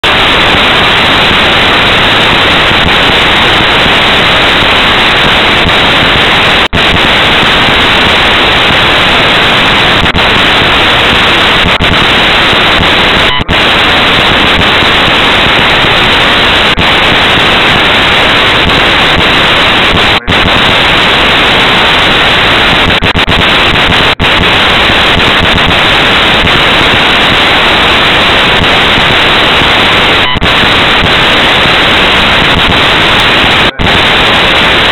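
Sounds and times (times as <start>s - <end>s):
static hiss: 0.0s - 34.9s.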